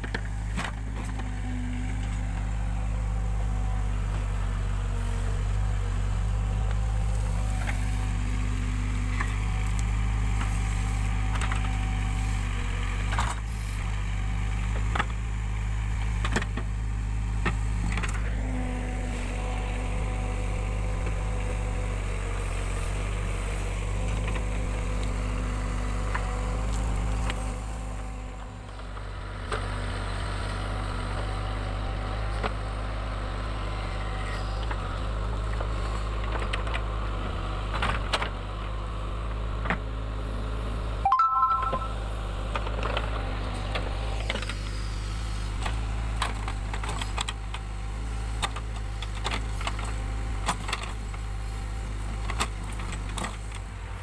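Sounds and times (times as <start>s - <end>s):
diesel engine running under load: 0.0s - 41.1s, 41.9s - 54.0s.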